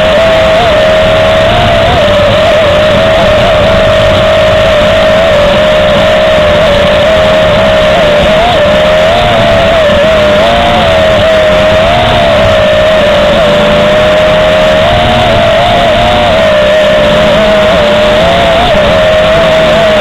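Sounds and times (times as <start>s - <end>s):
drone propellers whining: 0.0s - 20.0s
wind rushing over microphone: 0.0s - 20.0s.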